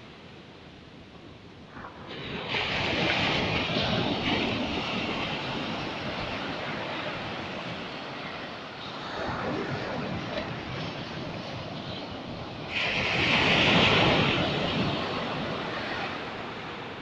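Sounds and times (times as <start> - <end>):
sea wave breaking: 1.7 - 17.0.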